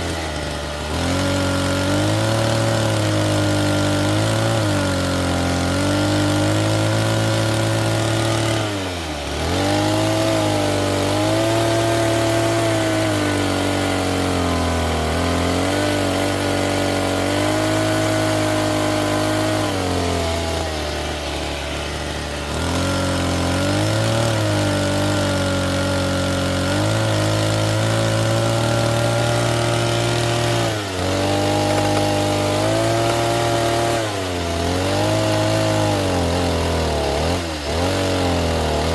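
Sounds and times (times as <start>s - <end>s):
toy excavator motor straining: 0.0s - 38.9s.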